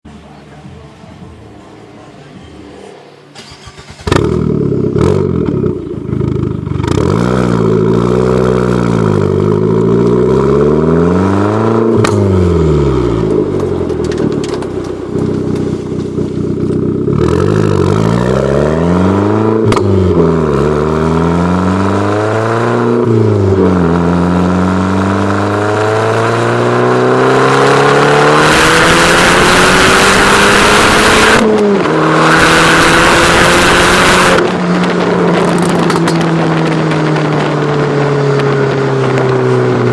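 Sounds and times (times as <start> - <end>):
car engine revving: 2.4 - 39.9.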